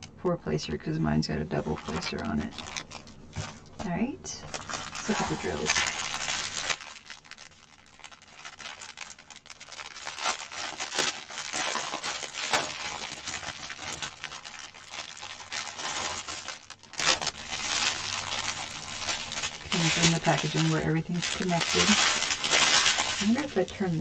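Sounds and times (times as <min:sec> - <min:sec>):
plastic wrapping crinkling: 0:00.8 - 0:24.0.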